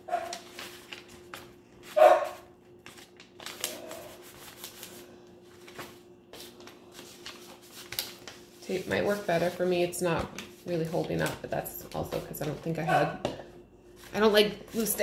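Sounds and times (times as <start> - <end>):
paper rustling: 0.2 - 12.7.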